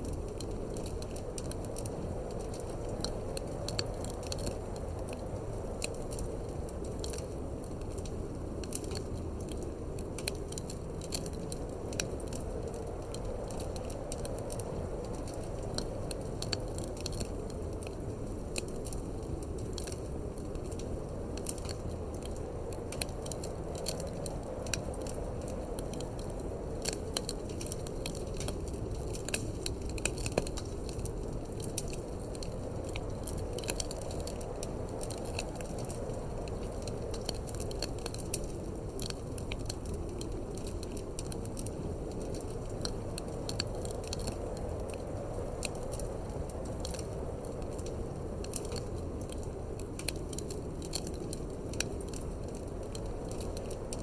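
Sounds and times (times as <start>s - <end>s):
fire popping: 0.0s - 54.0s
wood fire crackling: 0.0s - 54.0s.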